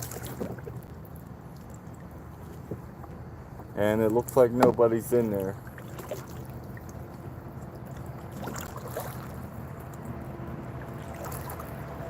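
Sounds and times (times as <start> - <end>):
water lapping: 0.0 - 12.0.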